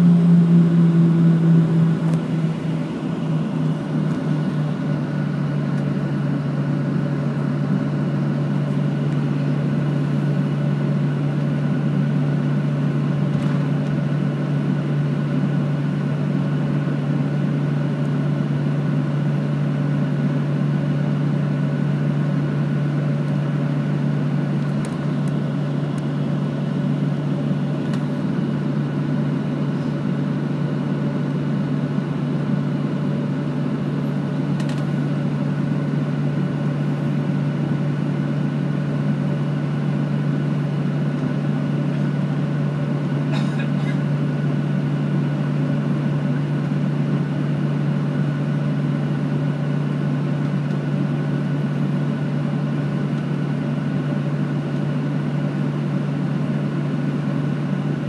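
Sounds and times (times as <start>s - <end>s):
low hum of jet engines: 0.0s - 58.0s.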